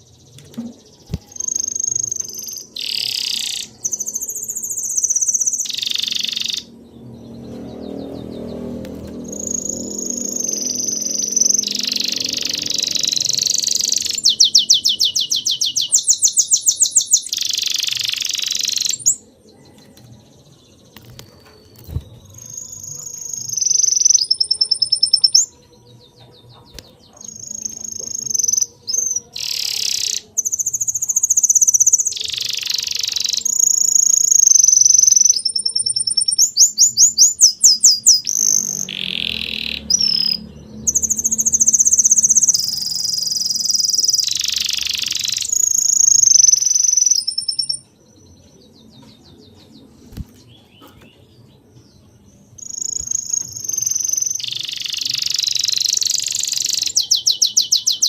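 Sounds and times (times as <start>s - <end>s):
bird trills: 0.0s - 6.7s, 7.5s - 19.3s, 21.1s - 48.0s, 52.6s - 58.0s
birds singing and chirping: 0.0s - 58.0s.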